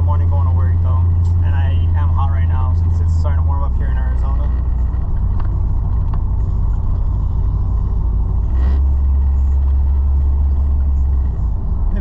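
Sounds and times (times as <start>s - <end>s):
engine and road drone inside cab: 0.0s - 12.0s.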